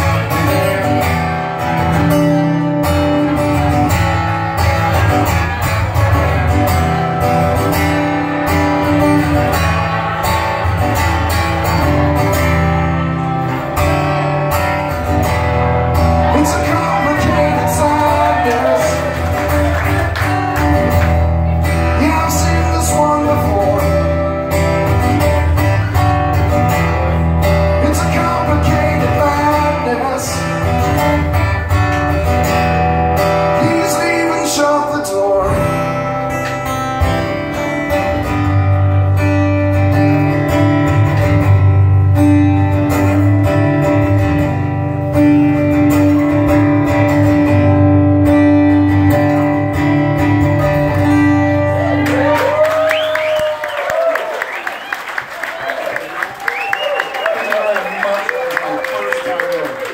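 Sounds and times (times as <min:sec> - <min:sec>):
acoustic guitar chords: 0:00.0 - 0:52.4.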